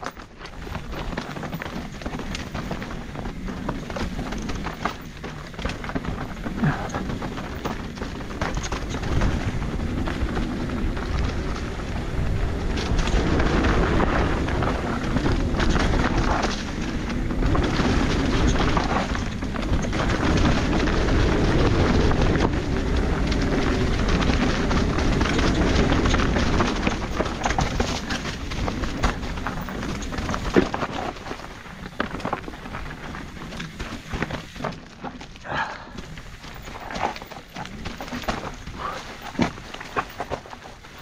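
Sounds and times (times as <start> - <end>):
bike rattling and knocking: 0.0 - 41.0
bike tyre noise: 0.0 - 41.0
wind rumbling on microphone: 0.0 - 41.0.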